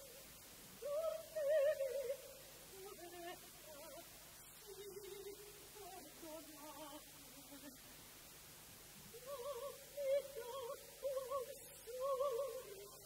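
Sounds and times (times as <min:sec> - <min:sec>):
women singing opera: 0:00.8 - 0:07.8, 0:09.1 - 0:13.0.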